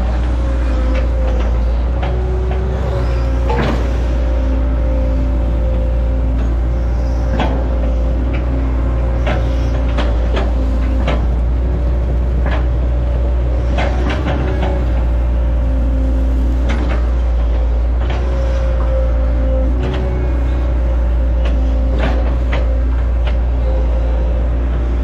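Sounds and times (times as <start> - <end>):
excavator diesel engine running: 0.0 - 25.0
hydraulic whine: 0.0 - 25.0.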